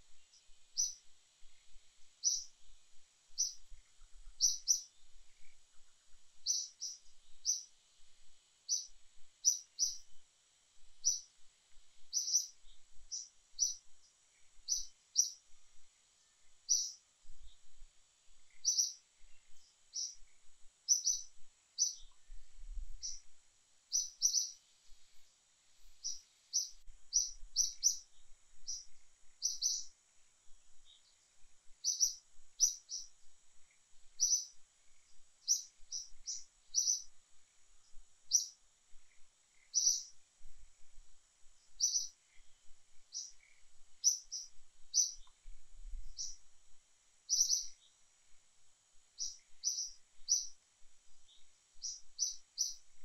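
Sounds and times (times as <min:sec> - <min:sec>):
small bird chirping: 0:00.0 - 0:46.5, 0:47.2 - 0:48.4, 0:49.0 - 0:53.0
faint high whine: 0:00.0 - 0:53.0.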